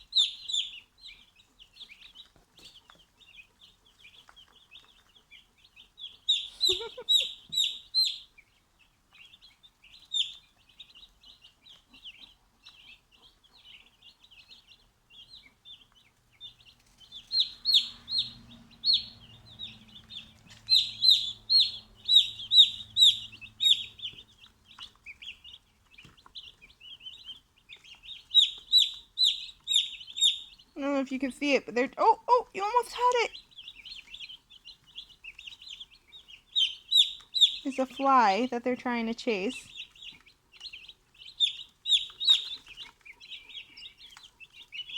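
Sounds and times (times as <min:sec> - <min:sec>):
turkey poults peeping: 0:00.0 - 0:44.9.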